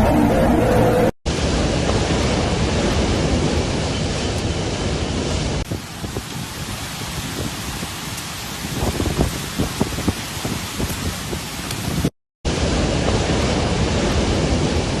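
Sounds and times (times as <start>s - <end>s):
strong wind: 0.0s - 15.0s
driving rain: 1.3s - 15.0s.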